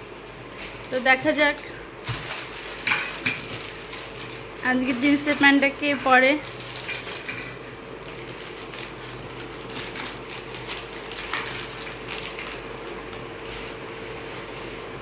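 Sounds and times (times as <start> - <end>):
plastic wrappers crinkling: 0.4 - 14.5.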